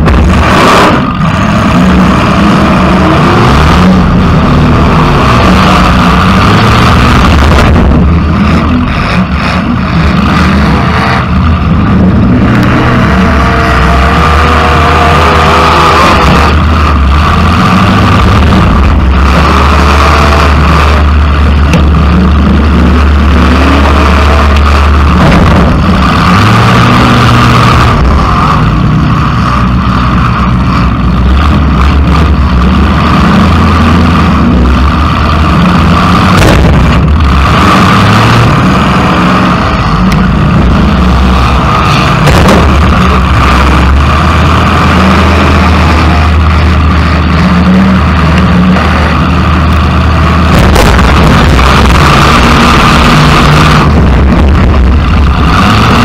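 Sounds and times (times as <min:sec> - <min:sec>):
loud car engine revving: 0:00.0 - 0:56.0.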